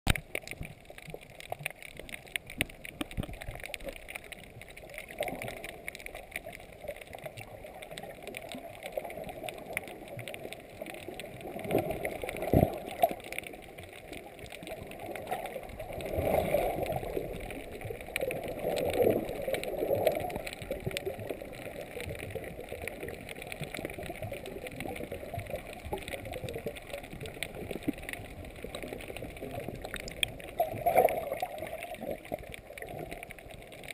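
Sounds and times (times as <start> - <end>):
water sloshing underwater: 0.1 - 33.9.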